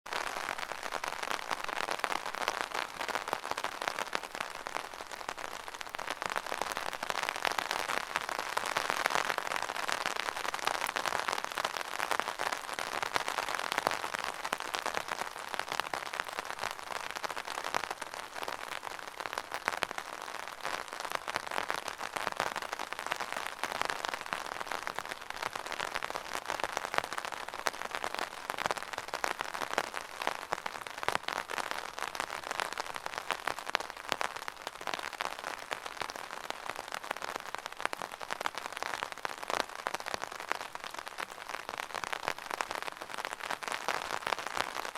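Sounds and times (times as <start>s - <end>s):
rain tapping on umbrella: 0.1s - 44.9s.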